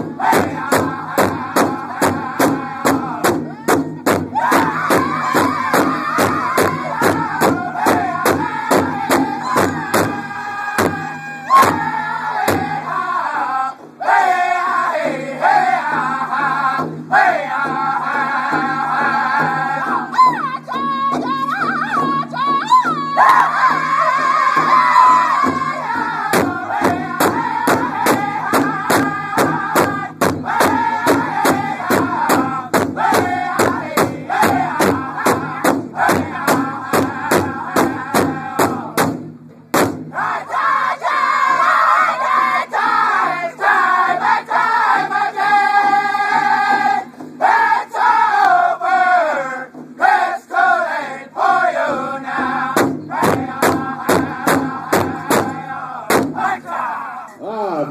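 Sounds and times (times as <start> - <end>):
large drum beating: 0.0 - 13.1, 13.7 - 56.8
group singing: 0.0 - 39.2, 40.1 - 57.5.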